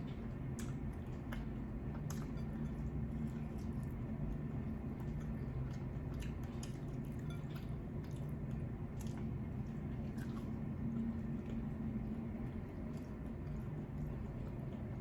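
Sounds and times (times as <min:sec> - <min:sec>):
steady low hum: 0:00.0 - 0:15.0
wet chewing and mouth sounds: 0:00.0 - 0:15.0.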